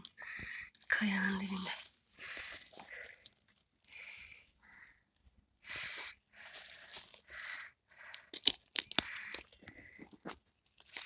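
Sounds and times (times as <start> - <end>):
pine needles and twigs rustling: 0.0 - 11.0
twigs snapping and crunching: 0.0 - 11.0.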